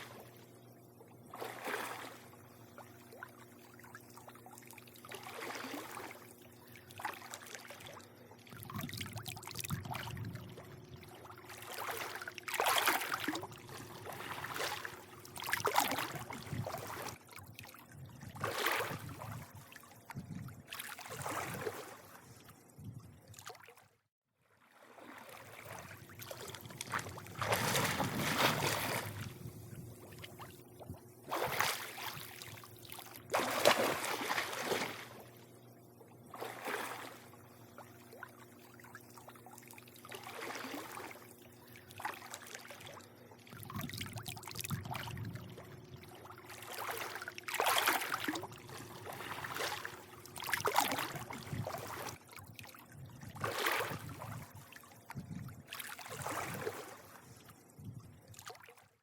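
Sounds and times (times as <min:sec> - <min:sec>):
steady low hum: 0:00.0 - 0:23.4, 0:25.0 - 0:55.7
pool water lapping and sloshing: 0:00.0 - 0:59.0.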